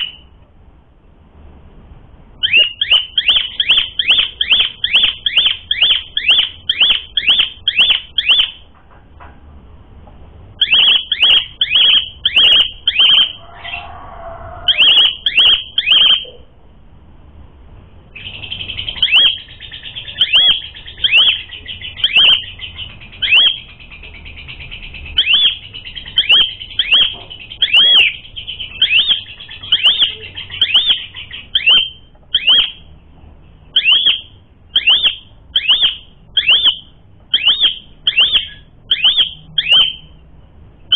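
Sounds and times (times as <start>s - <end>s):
starling whistling: 2.4s - 8.6s, 10.6s - 16.4s, 18.2s - 32.9s, 33.7s - 40.2s
harsh bird chatter: 2.4s - 9.2s, 10.5s - 16.4s, 18.1s - 32.9s, 33.7s - 40.2s.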